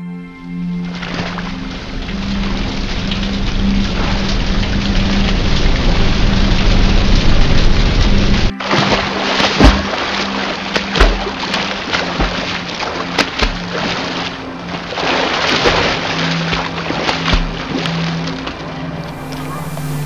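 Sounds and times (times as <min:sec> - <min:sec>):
music with low held notes: 0:00.0 - 0:20.0
water sloshing and splashing: 0:00.7 - 0:20.0
rain: 0:00.8 - 0:20.0.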